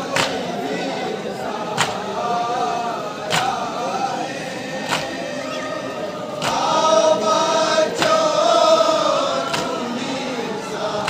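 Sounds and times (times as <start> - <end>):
men chanting together: 0.0 - 11.0.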